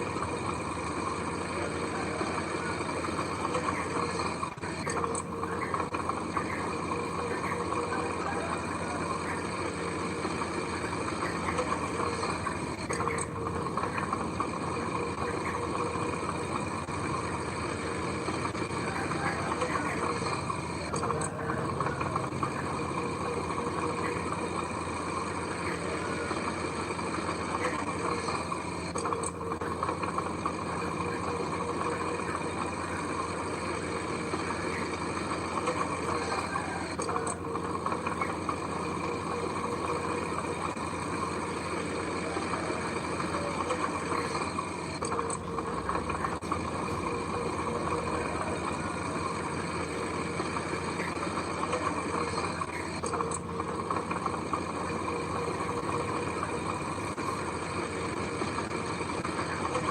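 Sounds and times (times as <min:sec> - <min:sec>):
construction machinery engine running: 0:00.0 - 0:59.9.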